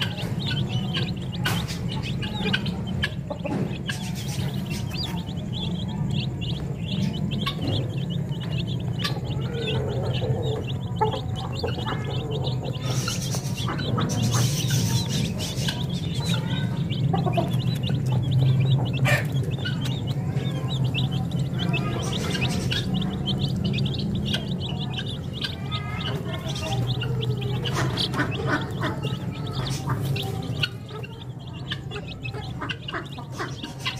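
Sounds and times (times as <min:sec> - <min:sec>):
chicks peeping: 0:00.0 - 0:33.9
steady low hum: 0:00.0 - 0:33.9.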